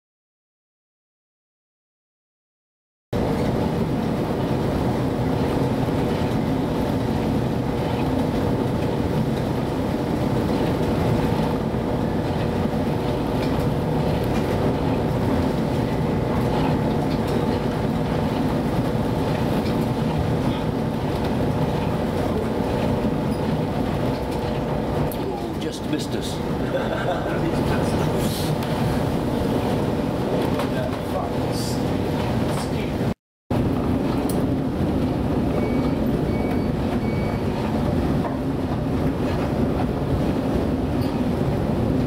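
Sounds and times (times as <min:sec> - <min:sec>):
ship engines droning: 0:03.2 - 0:42.0
storm wind: 0:03.2 - 0:42.0.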